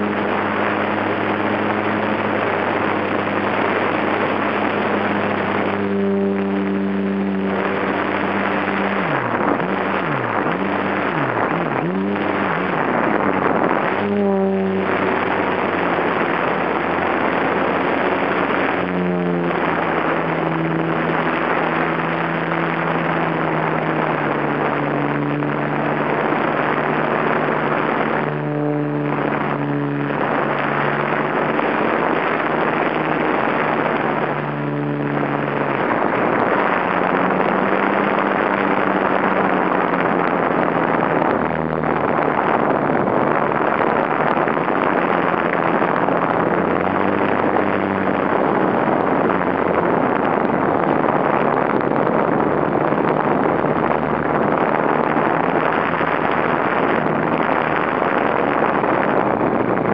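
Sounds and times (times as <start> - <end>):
electric motor and propeller humming: 0.0 - 59.9
wind rushing over camera: 0.0 - 59.9.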